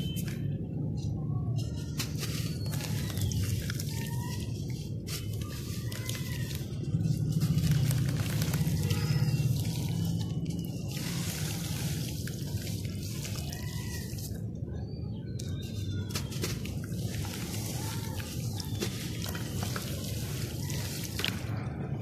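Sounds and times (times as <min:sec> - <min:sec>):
dirt balls crumbling in water: 0:01.7 - 0:14.6, 0:15.4 - 0:21.5
water dripping and trickling: 0:02.4 - 0:21.6.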